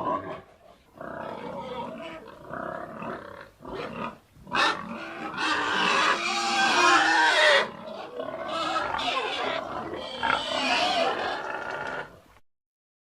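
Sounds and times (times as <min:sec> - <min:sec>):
pig grunting: 0:00.0 - 0:12.2
pig squealing: 0:00.0 - 0:12.2.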